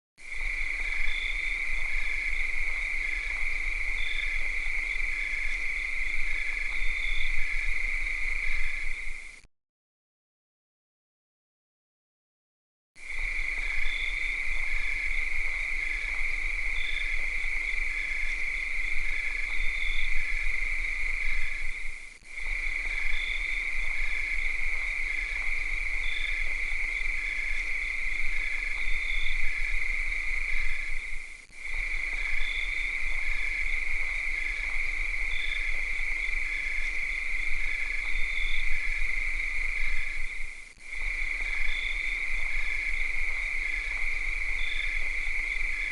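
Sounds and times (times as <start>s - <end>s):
cicadas buzzing: 0.2s - 9.4s, 13.0s - 45.9s.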